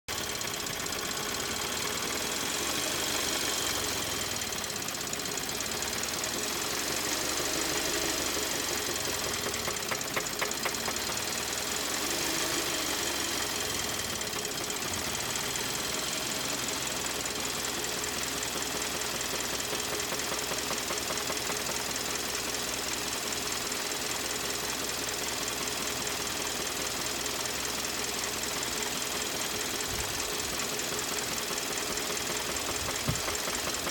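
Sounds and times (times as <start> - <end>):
car engine knocking: 0.1 - 33.9.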